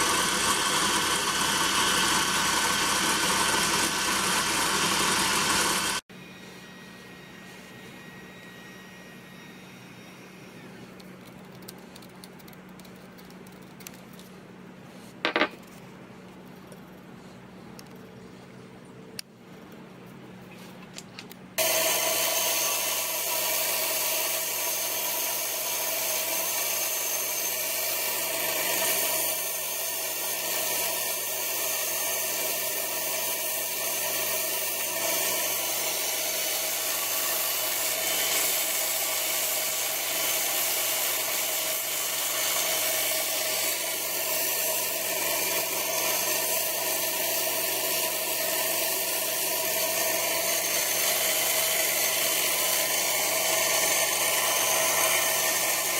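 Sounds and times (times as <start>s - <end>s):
power tool running: 0.0s - 12.5s, 21.6s - 55.9s.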